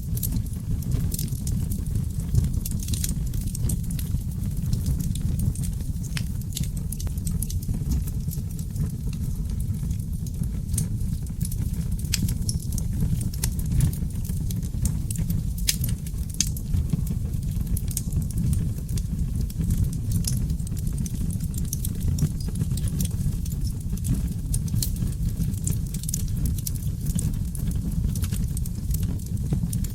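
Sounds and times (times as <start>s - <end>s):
fire roaring: 0.0s - 29.9s
logs crackling and popping: 0.0s - 29.9s.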